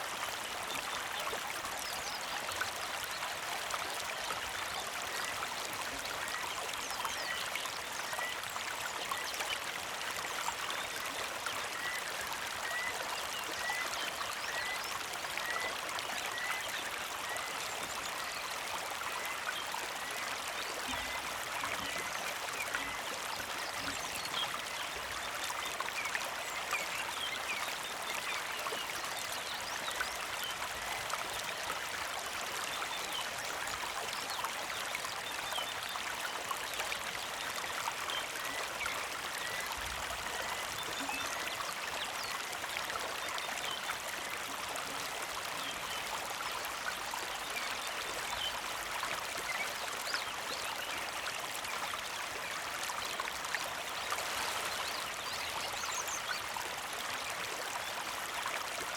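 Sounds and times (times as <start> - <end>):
creek flowing over stones: 0.0 - 58.9.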